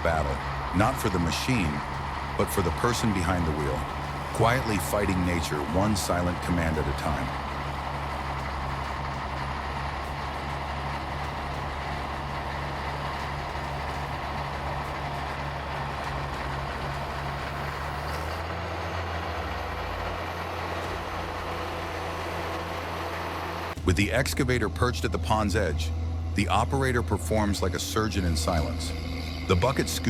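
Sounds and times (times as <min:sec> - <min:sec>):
heavy machine engine under load: 0:00.0 - 0:30.0.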